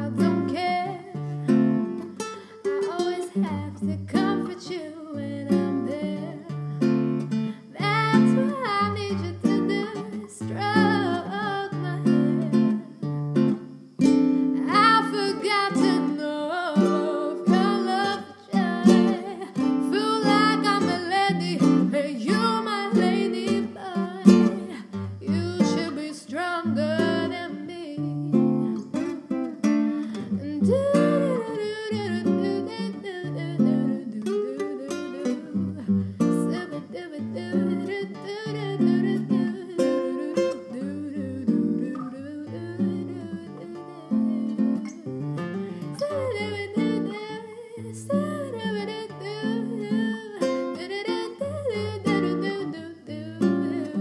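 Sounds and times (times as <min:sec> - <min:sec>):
woman singing: 0:00.0 - 0:06.7, 0:07.5 - 0:13.0, 0:14.4 - 0:54.0
acoustic guitar: 0:00.0 - 0:54.0.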